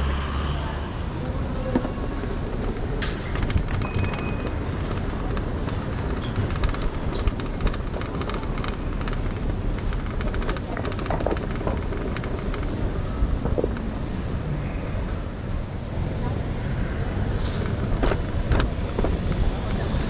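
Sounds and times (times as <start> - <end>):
car road noise rumble: 0.0 - 20.0.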